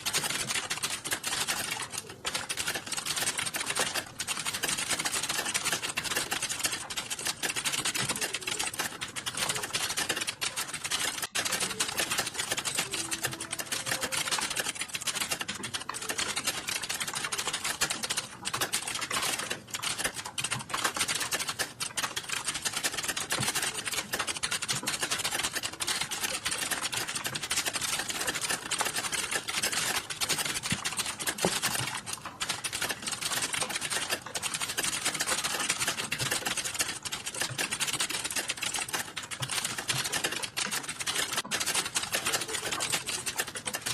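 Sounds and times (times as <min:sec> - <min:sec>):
fast keyboard typing: 0:00.0 - 0:43.9.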